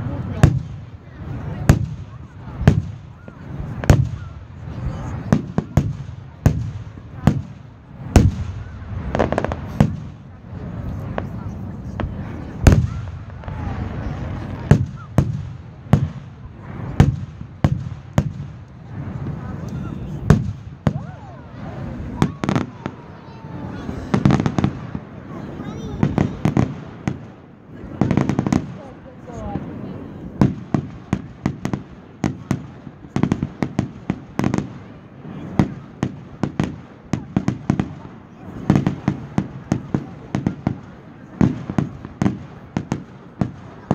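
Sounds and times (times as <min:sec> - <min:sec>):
fireworks bangs with rumble: 0:00.0 - 0:43.9.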